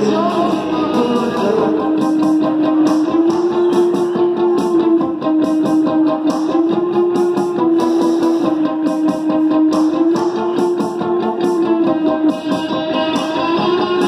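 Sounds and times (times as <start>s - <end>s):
drums: 0.0s - 14.0s
electric guitar: 0.0s - 14.0s.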